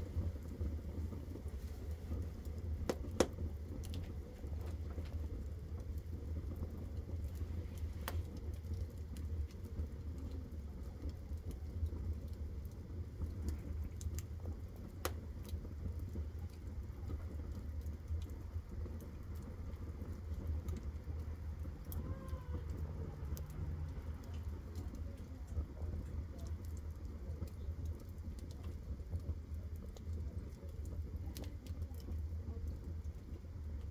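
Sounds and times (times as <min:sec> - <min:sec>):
low rumble of fire in stove: 0:00.0 - 0:33.9
wood fire crackling and popping: 0:00.0 - 0:33.9.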